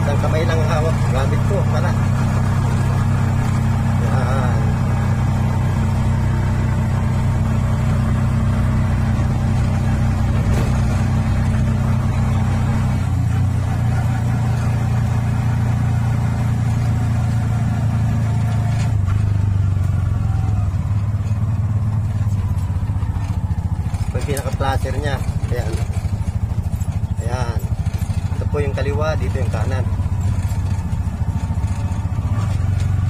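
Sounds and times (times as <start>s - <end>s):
three-wheeler engine running: 0.0s - 33.0s.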